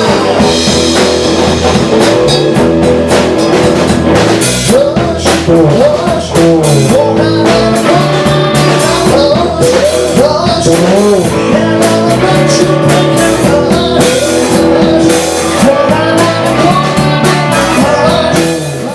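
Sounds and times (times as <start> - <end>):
person singing: 0.0 - 1.2, 4.6 - 18.9
drums: 0.0 - 18.9
electric guitar: 0.0 - 18.9.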